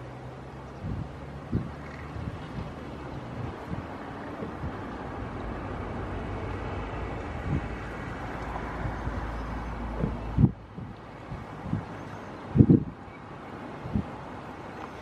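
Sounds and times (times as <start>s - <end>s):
wind buffeting microphone: 0.7s - 14.5s.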